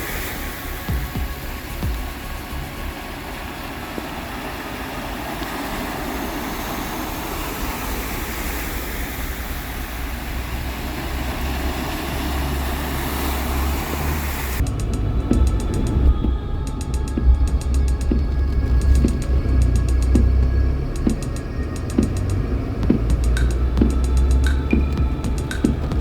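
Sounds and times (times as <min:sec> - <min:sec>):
car driving rumble: 0:00.0 - 0:26.0
even hiss: 0:00.0 - 0:26.0.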